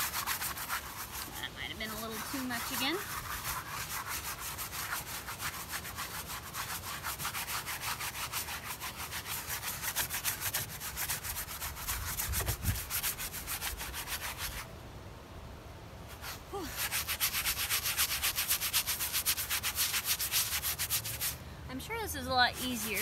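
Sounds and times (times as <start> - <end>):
paintbrush scrubbing on canvas: 0.0 - 14.7, 16.1 - 21.4, 22.2 - 23.0.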